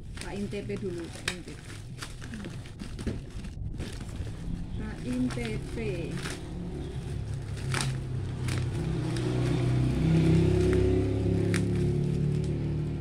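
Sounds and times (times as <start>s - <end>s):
plastic packaging crinkling: 0.0s - 12.8s
vehicle engine humming: 0.0s - 13.0s.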